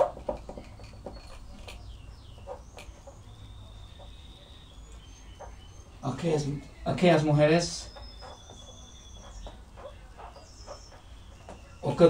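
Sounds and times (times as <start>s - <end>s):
marker squeaking on whiteboard: 0.0s - 12.0s.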